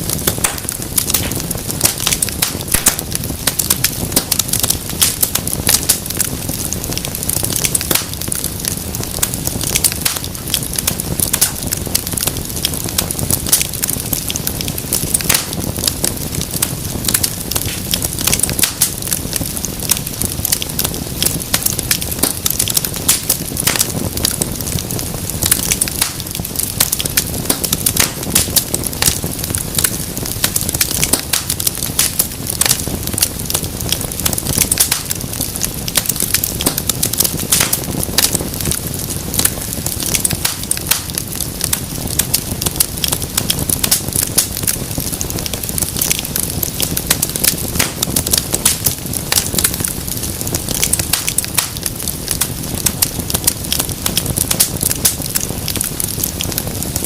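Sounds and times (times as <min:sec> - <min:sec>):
low rumble of flames: 0:00.0 - 0:57.0
wood fire crackling: 0:00.0 - 0:57.0.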